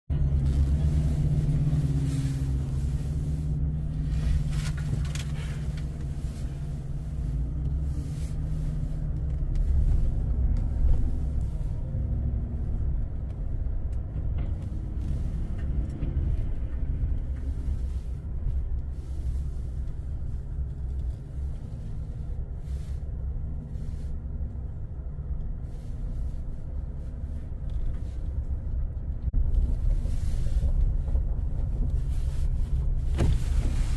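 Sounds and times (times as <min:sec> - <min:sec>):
diesel engine low rumble: 0:00.1 - 0:33.9.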